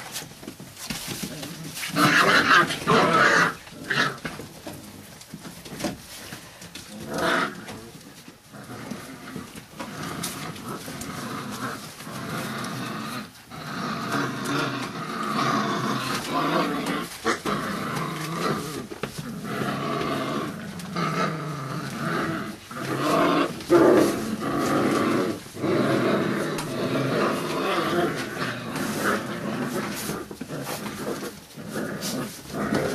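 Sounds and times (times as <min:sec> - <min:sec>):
puppies play growling: 0:00.0 - 0:32.9.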